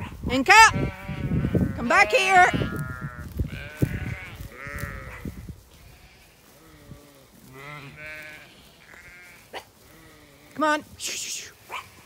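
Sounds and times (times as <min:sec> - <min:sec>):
sheep bleating: 0:00.6 - 0:10.8.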